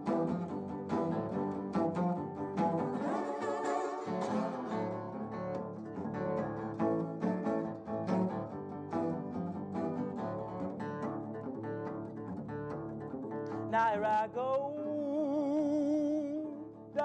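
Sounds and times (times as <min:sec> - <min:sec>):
blues guitar picked notes: 0:00.0 - 0:17.0.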